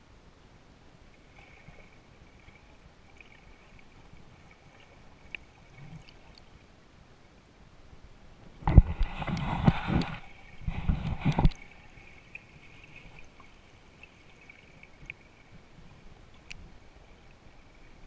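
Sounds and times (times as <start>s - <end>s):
water sloshing and gurgling: 1.0s - 6.8s, 8.3s - 18.0s.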